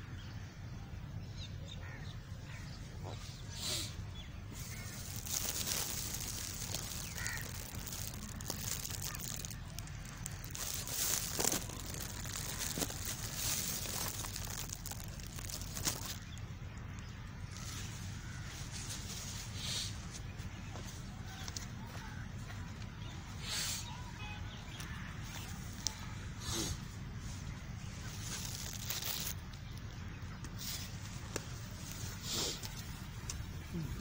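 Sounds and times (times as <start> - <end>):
faint bird calls: 0.0 - 34.0
steady low rumble: 2.2 - 23.4, 24.5 - 34.0.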